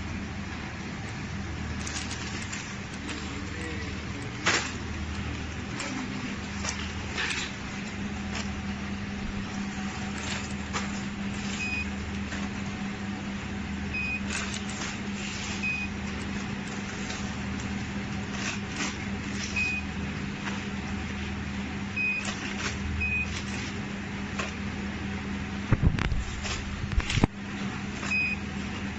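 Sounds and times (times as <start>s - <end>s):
packaging machinery humming: 0.0s - 28.9s.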